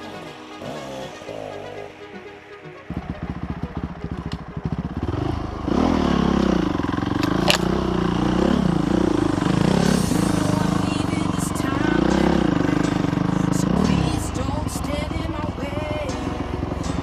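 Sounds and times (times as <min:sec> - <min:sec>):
dirt bike engine revving: 0:02.9 - 0:17.0.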